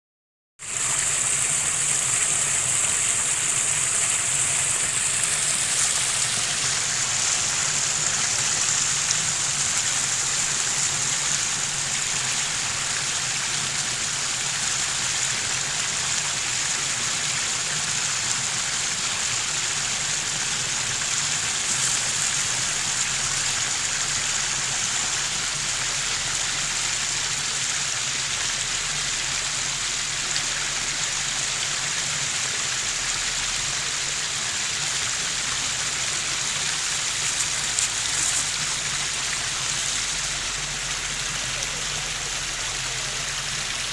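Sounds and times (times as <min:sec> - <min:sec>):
small stream babbling: 0:00.6 - 0:43.9.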